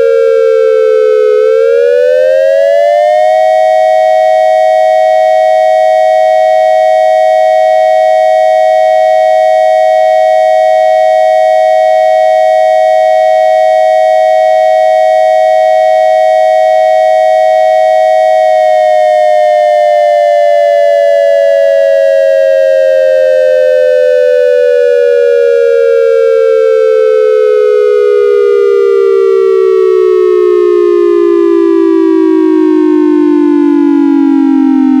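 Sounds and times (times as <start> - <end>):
synthesized siren tone: 0.0 - 35.0.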